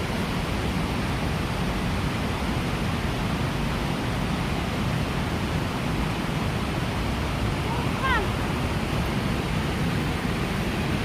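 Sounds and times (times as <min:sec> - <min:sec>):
water rushing over falls: 0:00.0 - 0:11.0.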